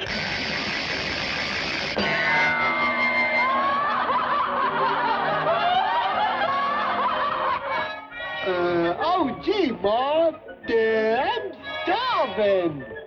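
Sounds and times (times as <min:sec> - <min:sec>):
cartoon soundtrack music: 0:00.0 - 0:13.0.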